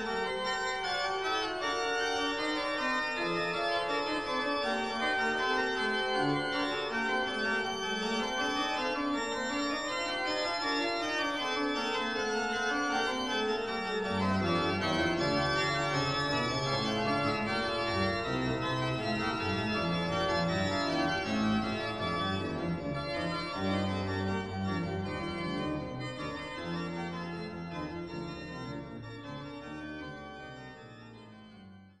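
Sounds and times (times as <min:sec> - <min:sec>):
organ music with held chords: 0:00.0 - 0:32.0.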